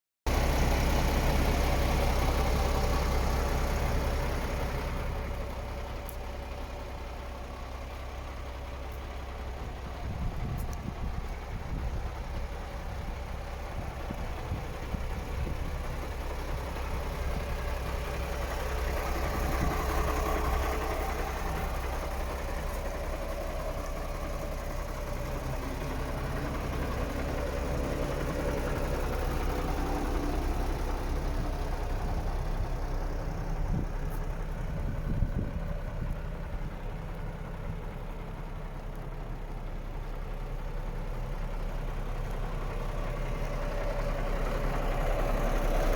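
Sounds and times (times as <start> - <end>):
truck diesel engine idling: 0.3 - 45.9.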